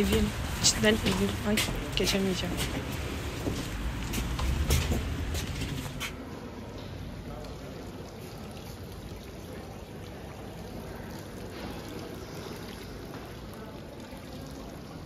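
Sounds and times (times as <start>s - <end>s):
fountain splashing: 0.0s - 6.1s, 7.2s - 15.0s.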